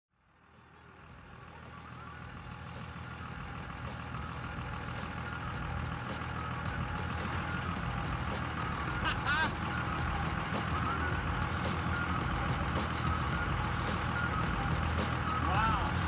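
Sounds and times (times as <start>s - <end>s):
truck engine running low speed: 0.1s - 16.0s.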